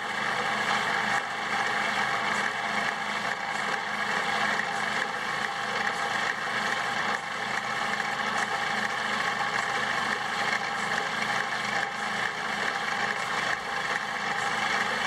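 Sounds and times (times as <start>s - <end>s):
bandsaw motor hum and blade whir: 0.0s - 15.0s.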